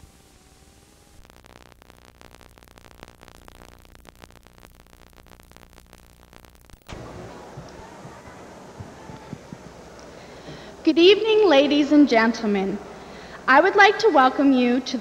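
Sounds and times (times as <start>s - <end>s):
room sound: 0.0s - 13.6s
videotape hiss and crackling: 0.0s - 15.0s.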